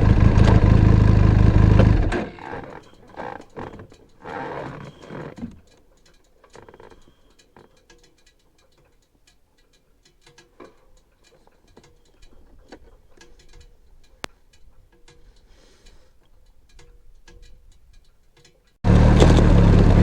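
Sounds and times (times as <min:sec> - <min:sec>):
faint ticking and clicking: 0:02.4 - 0:18.8.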